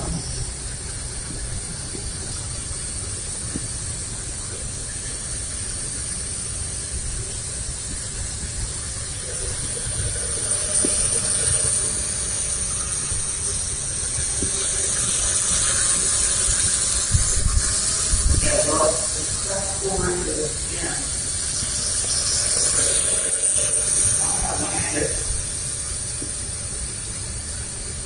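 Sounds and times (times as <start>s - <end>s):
toy drone propellers whirring: 0.0s - 28.0s.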